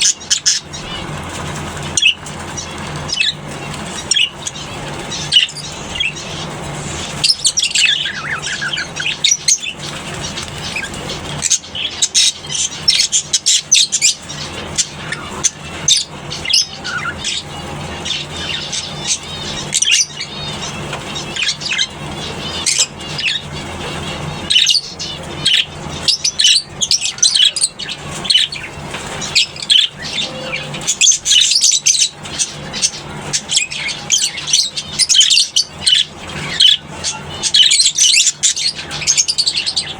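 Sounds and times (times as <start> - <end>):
lovebirds chirping and squawking: 0.0 - 39.9
steady low hum: 0.0 - 39.9.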